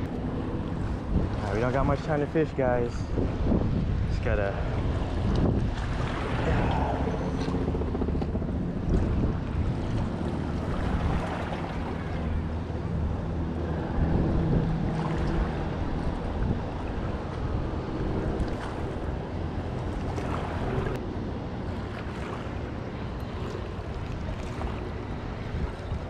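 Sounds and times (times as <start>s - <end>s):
small waves washing: 0.0s - 26.0s
wind buffeting microphone: 0.0s - 26.0s.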